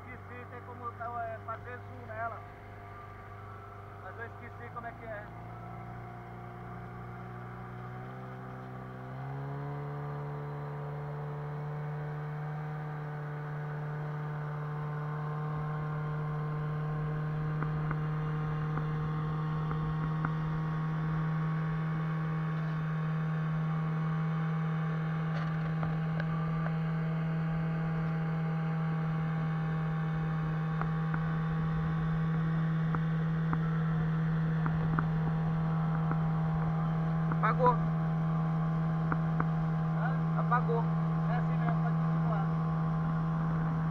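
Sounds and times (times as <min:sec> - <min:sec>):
outboard motor droning: 0:00.0 - 0:43.9
water rushing along hull: 0:00.0 - 0:43.9.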